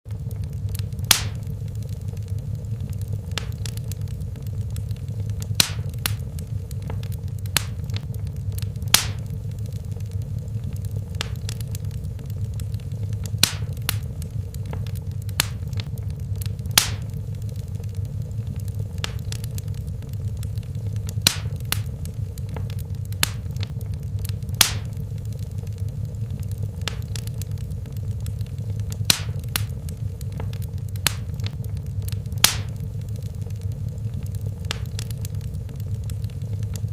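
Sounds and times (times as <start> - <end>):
low rumble of flames: 0.0 - 36.9
wood fire crackling and popping: 0.0 - 36.9.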